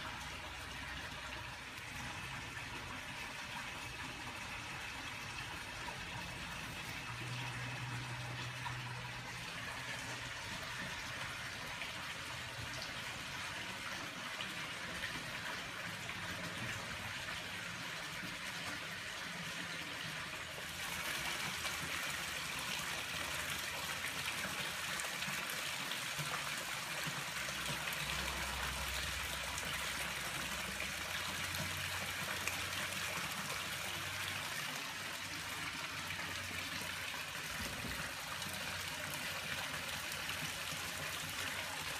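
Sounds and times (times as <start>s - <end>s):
running water trickling: 0.0s - 41.9s.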